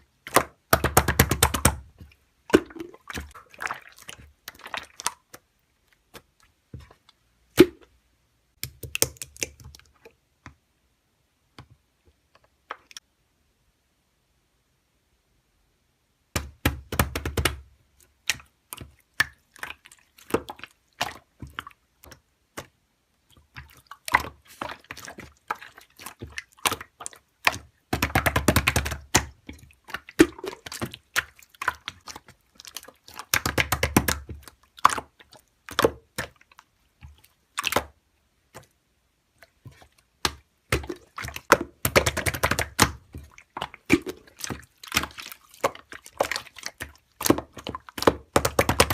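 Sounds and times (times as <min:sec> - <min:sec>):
slime squishing: 0:00.0 - 0:08.0, 0:08.6 - 0:10.6, 0:16.4 - 0:48.9.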